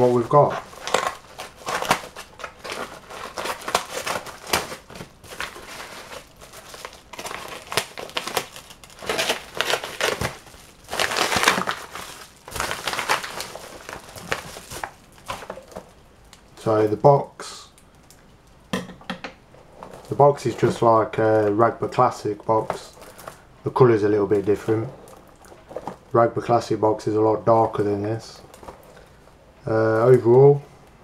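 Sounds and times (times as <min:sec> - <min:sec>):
paper mailer bag crinkling: 0:00.0 - 0:17.2, 0:19.8 - 0:30.6.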